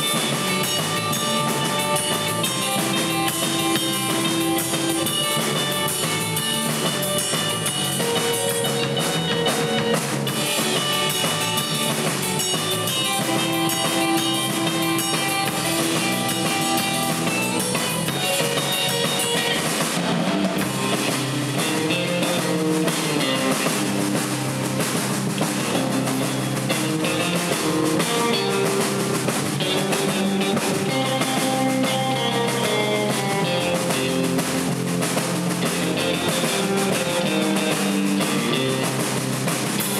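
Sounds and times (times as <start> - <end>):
bass guitar: 0.0 - 39.9
drum kit: 0.0 - 39.9
electric guitar lead: 0.0 - 39.9.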